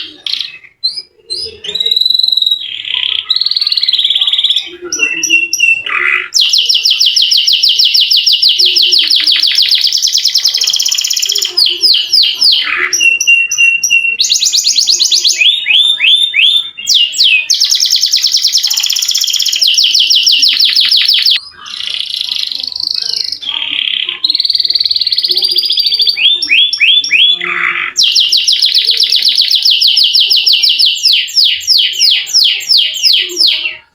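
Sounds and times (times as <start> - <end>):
canary singing trills: 0.0 - 33.9.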